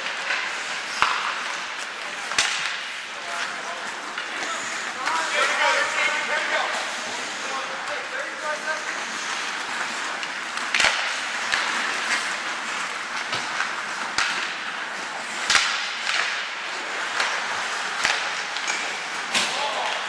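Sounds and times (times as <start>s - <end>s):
hockey sticks and puck clacking: 0.0s - 20.0s
skates scraping ice: 0.0s - 20.0s.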